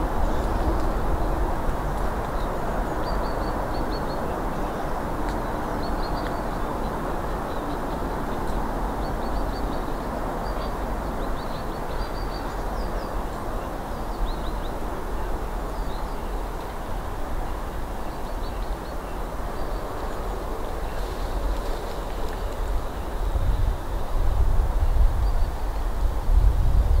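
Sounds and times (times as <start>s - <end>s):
low rushing background noise: 0.0s - 27.0s.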